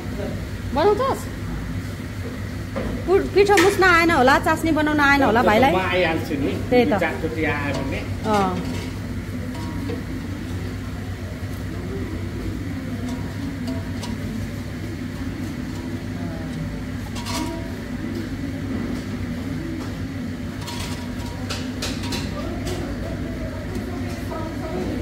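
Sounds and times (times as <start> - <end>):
gas burner rumble: 0.0 - 25.0.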